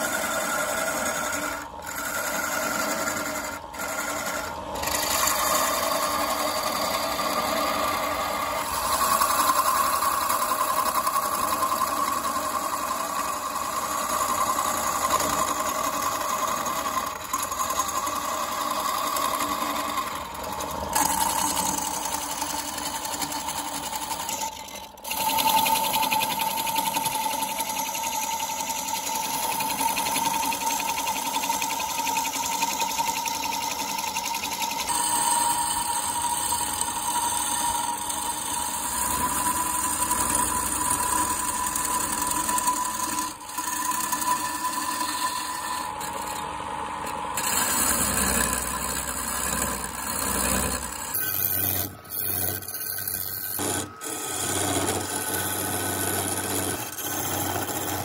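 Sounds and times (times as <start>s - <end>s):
gouge cutting spinning wood: 0.0s - 58.0s
wood lathe whining: 0.0s - 58.0s.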